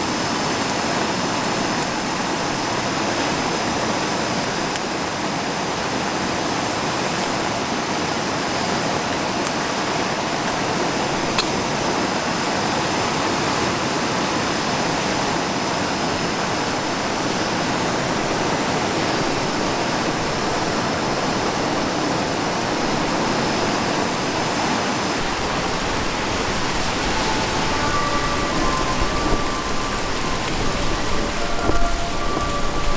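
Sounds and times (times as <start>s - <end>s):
river water rushing: 0.0s - 32.9s.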